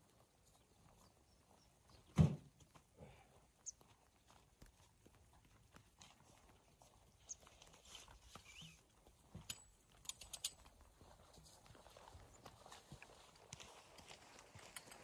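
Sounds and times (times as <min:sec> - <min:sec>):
faint footsteps on snowy grass: 0:00.0 - 0:10.0, 0:10.6 - 0:15.0.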